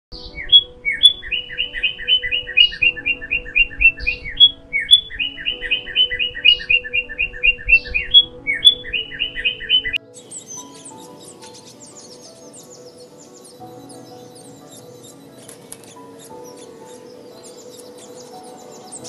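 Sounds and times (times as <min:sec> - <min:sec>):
songbird chirping: 0:00.1 - 0:19.0.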